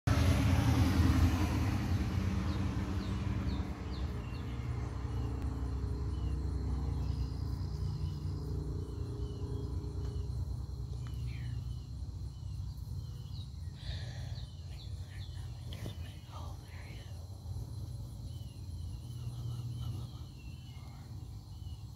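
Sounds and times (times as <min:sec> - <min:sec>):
steady low rumble: 0:00.1 - 0:21.9
small birds chirping: 0:01.4 - 0:21.9.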